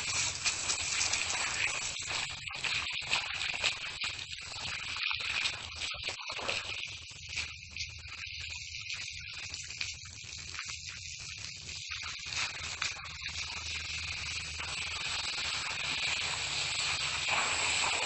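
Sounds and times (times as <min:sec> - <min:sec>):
crackling hiss: 0:00.0 - 0:04.2, 0:06.0 - 0:18.0.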